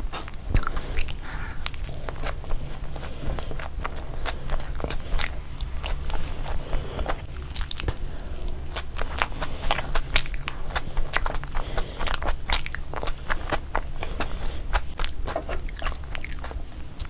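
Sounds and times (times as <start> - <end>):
faint low hum: 0.0 - 17.0
mouth clicks: 0.0 - 17.0
wet chewing and smacking: 0.0 - 17.0.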